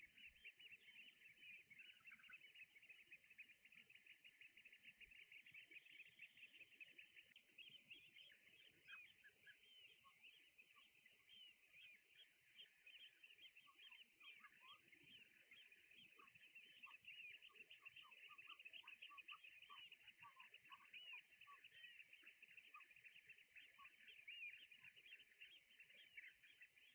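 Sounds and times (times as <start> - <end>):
lower bird calls: 0.0 - 26.9
water birds chirping and calling: 0.0 - 26.9.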